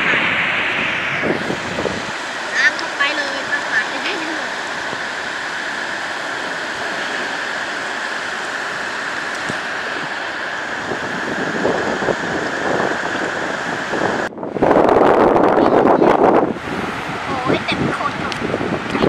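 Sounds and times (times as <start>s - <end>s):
sea surf: 0.0s - 19.0s
wind on microphone: 0.0s - 19.0s.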